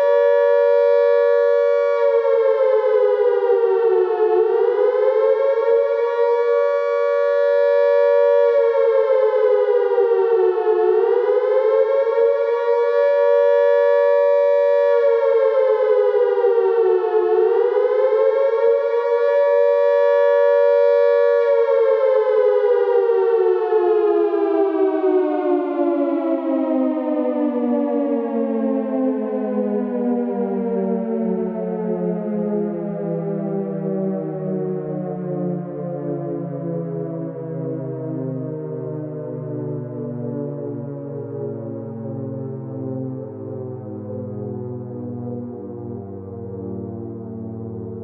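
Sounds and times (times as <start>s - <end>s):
air-raid siren wailing: 0.0s - 48.0s.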